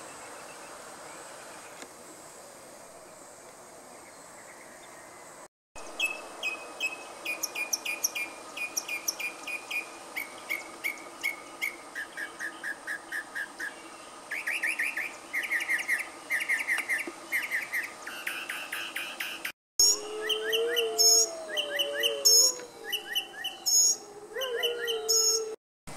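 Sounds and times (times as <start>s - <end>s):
songbird singing: 0.0s - 1.9s, 2.9s - 25.6s
faint insect hum: 0.0s - 25.5s.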